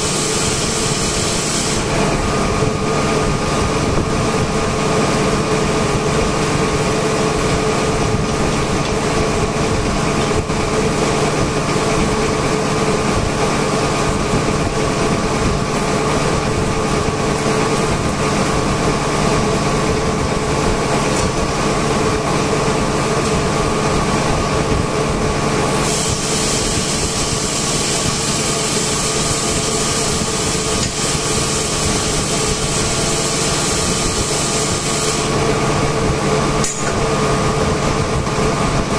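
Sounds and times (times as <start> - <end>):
air compressors humming: 0.0 - 38.9.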